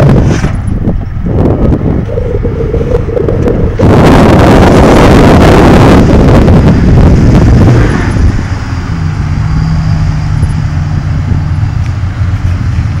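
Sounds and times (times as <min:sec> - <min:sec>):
car engine rushing: 0:00.0 - 0:13.0.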